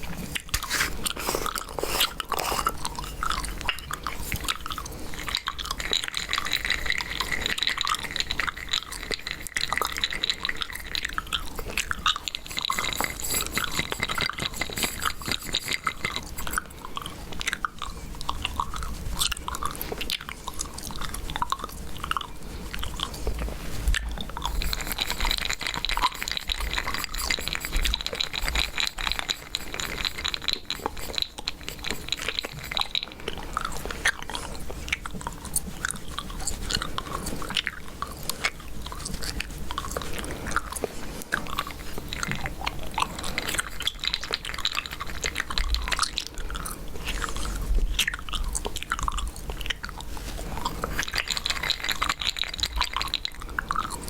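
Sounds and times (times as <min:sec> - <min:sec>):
gum chewing with wet smacks: 0:00.0 - 0:54.0.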